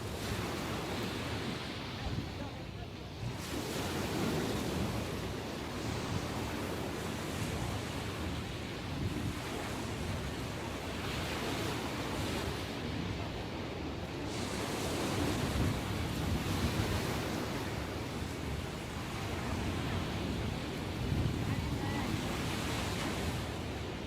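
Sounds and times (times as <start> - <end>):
ocean waves breaking: 0.0 - 24.0
wind on microphone: 0.0 - 24.0.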